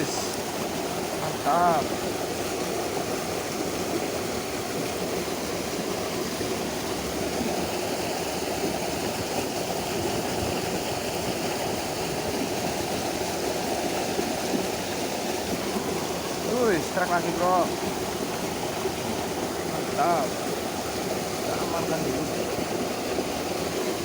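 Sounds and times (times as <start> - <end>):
stream water flowing: 0.0 - 24.0.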